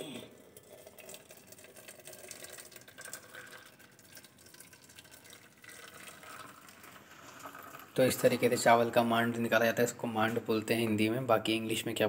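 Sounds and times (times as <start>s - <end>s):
water pouring into metal pot: 0.3s - 10.7s.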